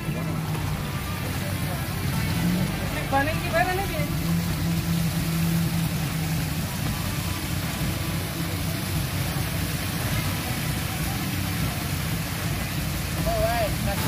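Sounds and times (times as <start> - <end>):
car engine idling: 0.0 - 14.0
flowing water rushing: 0.0 - 14.0.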